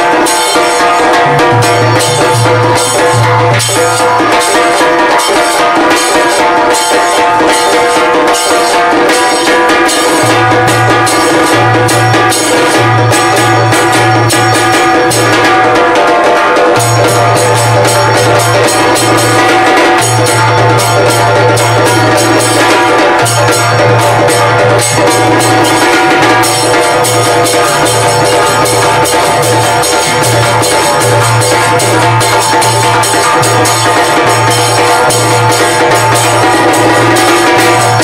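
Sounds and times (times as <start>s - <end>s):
drums and hand percussion: 0.0s - 38.0s.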